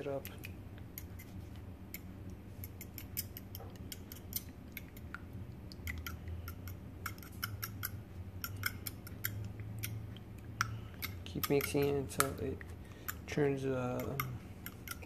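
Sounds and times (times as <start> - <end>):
fork clicking against bowl: 1.9 - 15.0.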